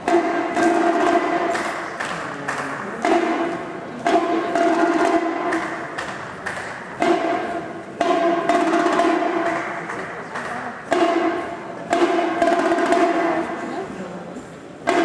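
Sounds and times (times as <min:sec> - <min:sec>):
marching band playing: 0:00.0 - 0:13.9
sharp percussion hits: 0:00.0 - 0:14.0, 0:14.7 - 0:15.0.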